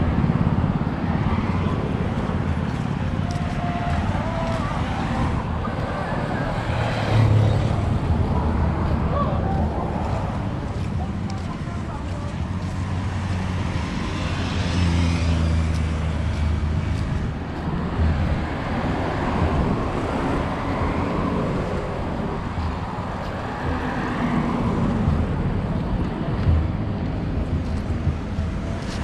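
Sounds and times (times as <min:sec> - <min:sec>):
city car traffic: 0:00.0 - 0:29.0
vehicles passing by: 0:00.0 - 0:29.0.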